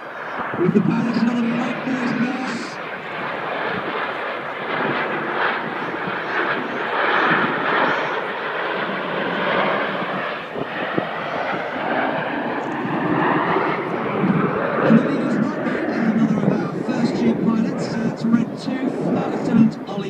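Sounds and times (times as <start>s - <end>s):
jet engines flying by: 0.0s - 20.0s.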